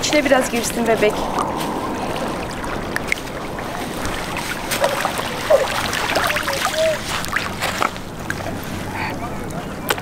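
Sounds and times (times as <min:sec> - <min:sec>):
shallow water running: 0:00.0 - 0:08.6
small splashes: 0:00.4 - 0:08.8.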